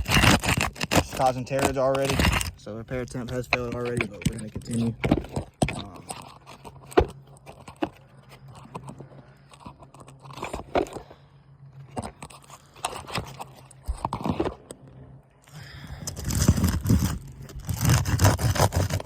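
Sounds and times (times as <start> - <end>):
shingle crunching and scraping: 0.0 - 19.0.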